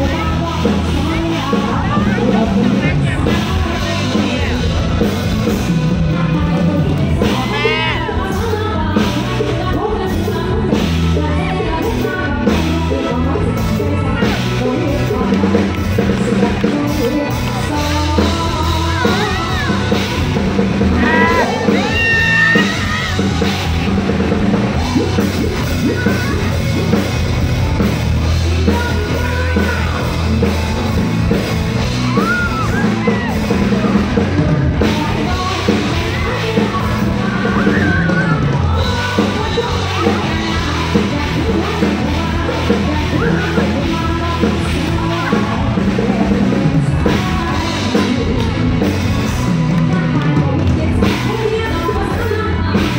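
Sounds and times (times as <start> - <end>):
woman singing into a microphone: 0.0 - 4.6, 5.9 - 23.8, 28.4 - 30.2, 32.1 - 52.9
live band playing: 0.0 - 52.9.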